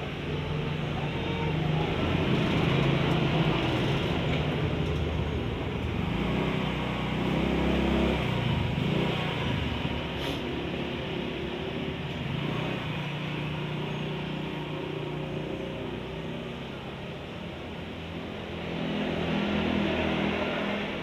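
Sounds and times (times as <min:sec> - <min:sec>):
street traffic: 0:00.0 - 0:21.0
vehicle engine humming: 0:00.0 - 0:21.0.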